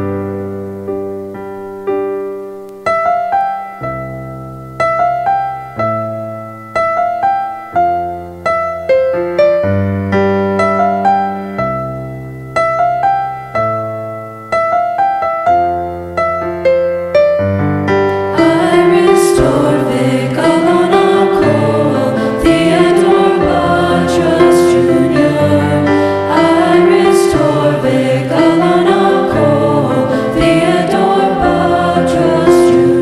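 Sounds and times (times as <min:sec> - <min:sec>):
slow piano music: 0:00.0 - 0:33.0.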